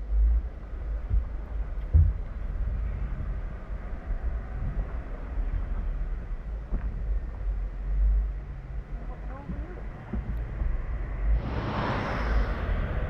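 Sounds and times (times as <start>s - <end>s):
engine low rumble: 0.0s - 13.0s
wind buffeting microphone: 0.0s - 13.0s.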